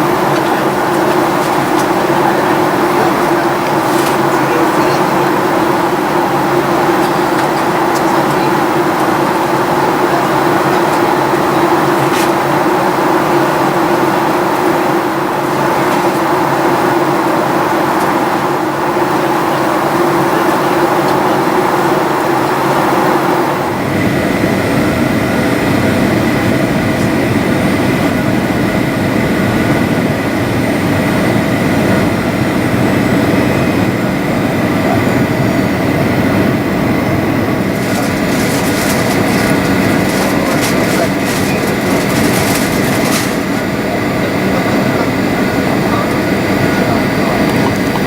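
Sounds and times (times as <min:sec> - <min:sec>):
airplane cabin engine rumble: 0:00.0 - 0:48.0.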